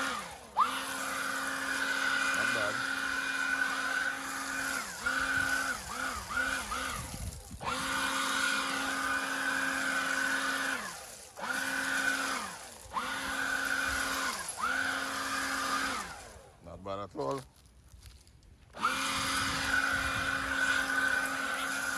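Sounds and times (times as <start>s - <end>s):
leaf blower motor whine: 0.0s - 21.9s.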